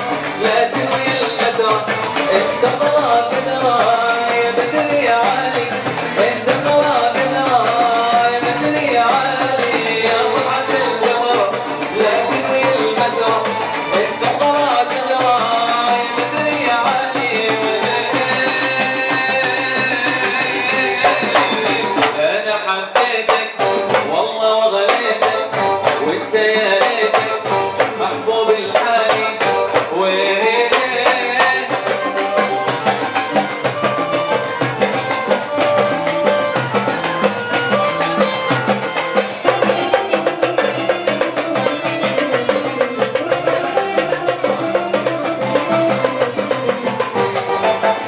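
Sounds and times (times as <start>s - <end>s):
hand drums and tambourine: 0.0s - 22.4s, 23.0s - 30.0s, 30.6s - 48.0s
goblet and frame drums: 0.0s - 48.0s
oud: 0.0s - 48.0s
person singing: 0.0s - 48.0s.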